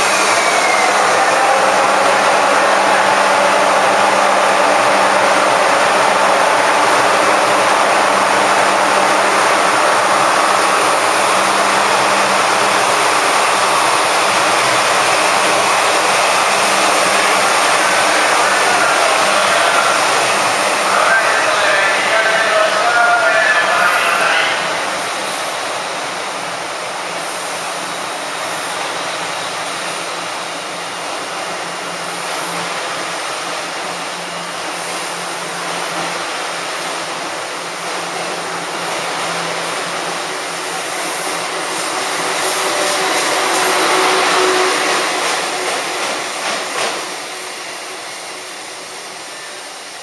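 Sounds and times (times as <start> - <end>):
electric locomotive passing: 0.0 - 50.0
train wheels rumbling on rail: 0.0 - 50.0.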